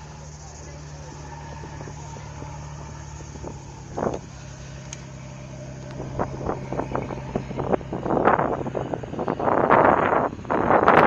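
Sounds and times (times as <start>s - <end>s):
motor droning: 0.0s - 11.0s
wind gusts on microphone: 0.0s - 11.0s.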